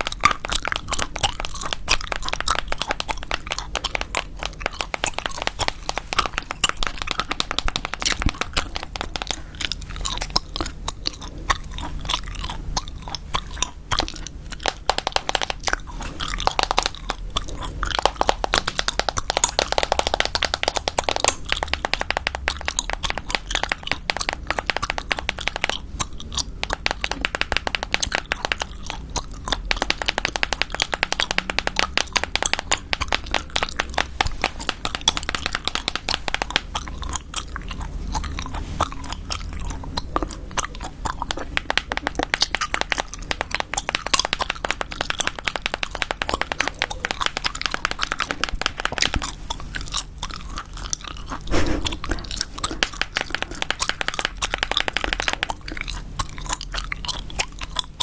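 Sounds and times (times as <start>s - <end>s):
gum chewing wet smacks: 0.0s - 58.0s.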